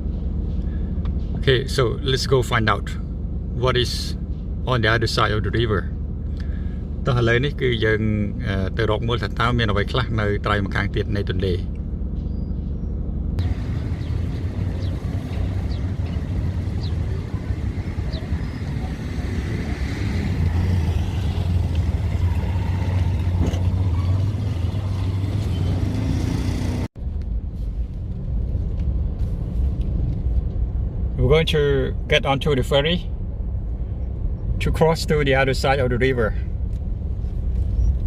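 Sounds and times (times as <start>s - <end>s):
engines rumbling: 0.0s - 38.0s.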